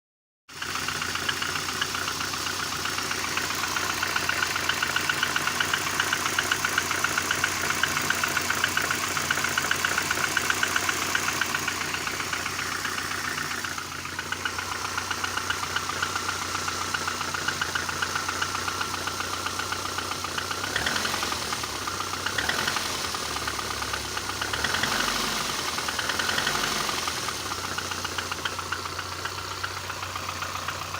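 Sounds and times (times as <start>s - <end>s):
car engine running: 0.5s - 30.9s.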